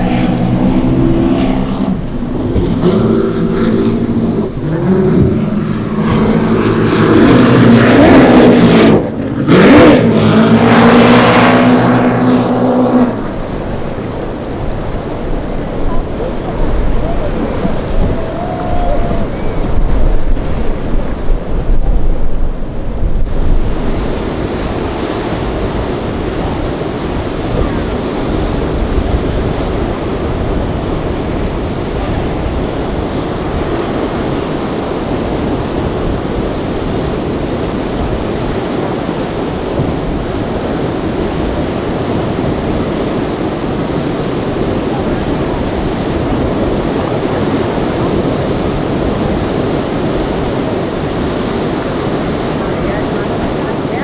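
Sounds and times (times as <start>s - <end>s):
breaking waves: 0.0s - 54.0s
wind buffeting microphone: 0.0s - 54.0s.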